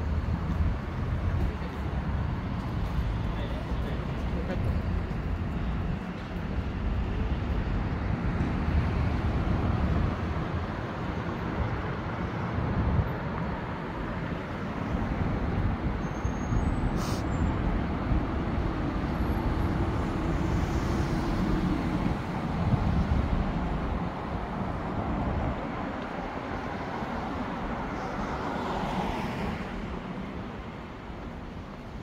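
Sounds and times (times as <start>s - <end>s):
cars passing: 0.0s - 32.0s.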